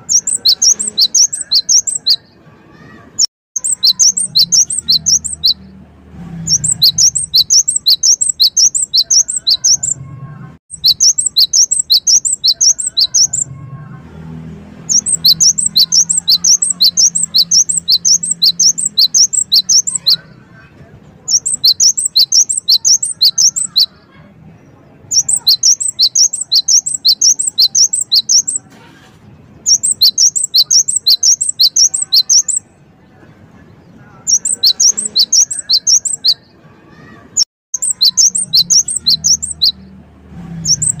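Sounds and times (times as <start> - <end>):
bird singing rapid high notes: 0.0 - 13.6, 14.5 - 20.4, 21.3 - 28.7, 29.5 - 32.8, 33.7 - 41.0.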